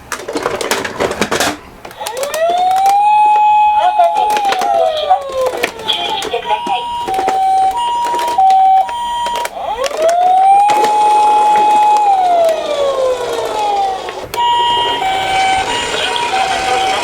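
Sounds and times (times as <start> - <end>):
siren wail: 2.0 - 17.0
two-tone hi-lo siren: 2.0 - 17.0.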